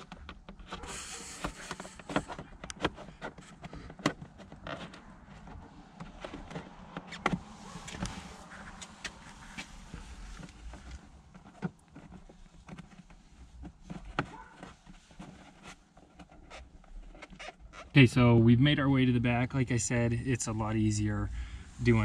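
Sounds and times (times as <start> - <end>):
rustling: 0.0 - 18.0.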